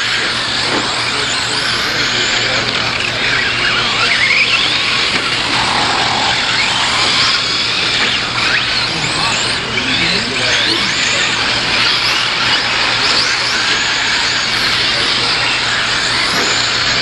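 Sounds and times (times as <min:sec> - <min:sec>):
rc truck motors whining: 0:00.0 - 0:17.0
steady rush of noise: 0:00.0 - 0:17.0.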